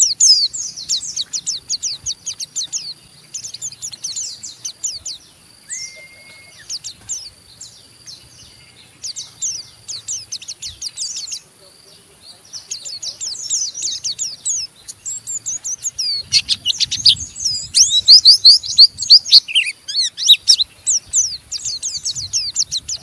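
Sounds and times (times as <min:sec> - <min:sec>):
white-eye high chirps: 0:00.0 - 0:11.5, 0:12.6 - 0:23.0.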